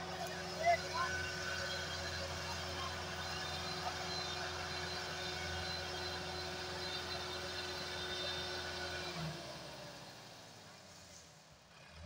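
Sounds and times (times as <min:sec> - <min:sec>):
tractor diesel engine running: 0:00.0 - 0:11.1.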